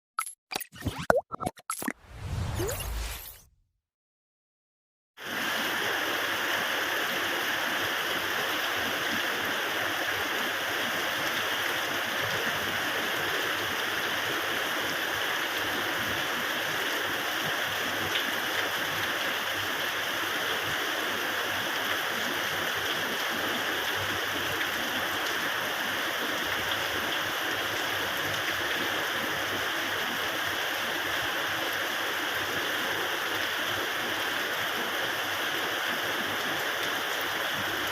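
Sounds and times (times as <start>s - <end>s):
rain falling steadily: 5.2s - 37.9s.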